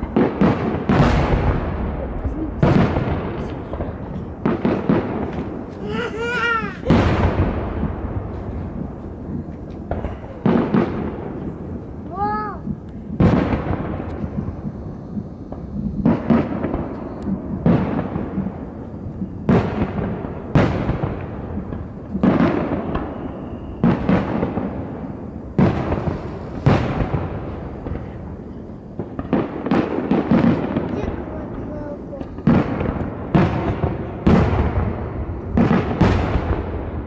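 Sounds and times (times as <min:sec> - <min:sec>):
fireworks booming: 0:00.0 - 0:37.0.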